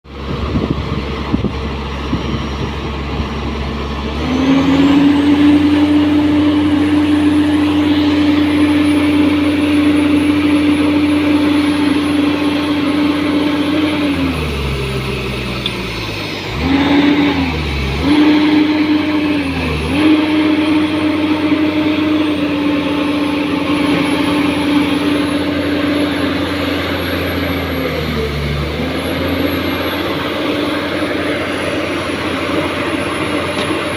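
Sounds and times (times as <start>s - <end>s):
excavator diesel engine revving: 0.0s - 33.9s.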